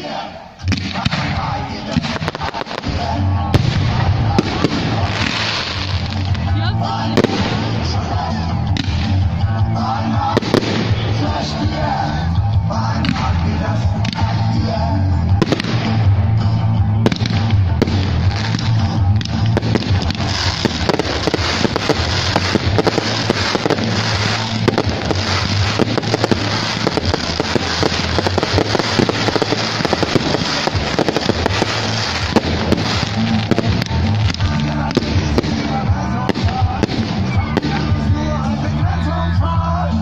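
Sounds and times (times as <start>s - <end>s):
fireworks crackling: 0.1s - 38.9s
music with steady bass: 0.1s - 40.0s.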